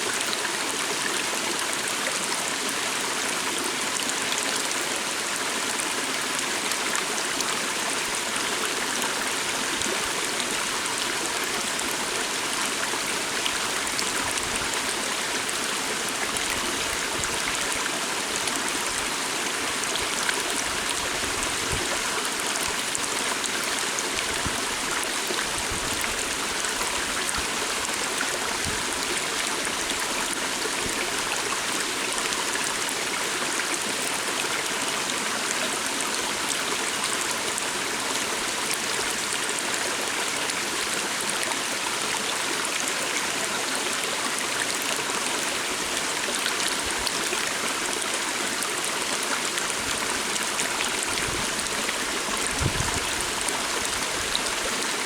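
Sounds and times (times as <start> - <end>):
small stream flowing: 0.0 - 55.0.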